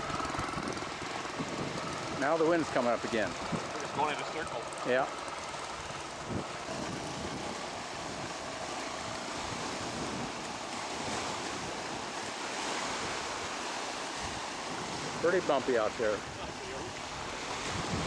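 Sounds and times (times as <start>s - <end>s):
wind rushing over microphone: 0.0s - 4.5s, 5.3s - 18.0s
water lapping: 0.0s - 18.0s.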